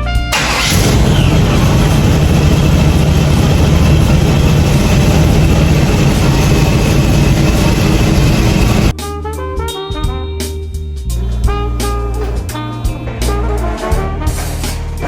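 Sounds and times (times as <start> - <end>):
car engine rumbling: 0.4 - 9.0, 11.0 - 15.0.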